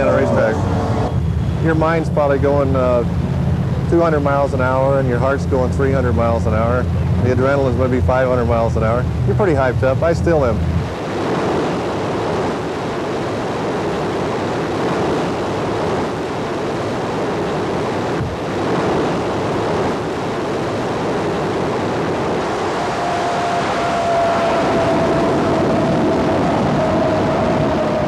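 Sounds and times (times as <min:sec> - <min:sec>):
high whine falling in pitch: 0:00.0 - 0:28.0
jet engines roaring: 0:00.0 - 0:28.0.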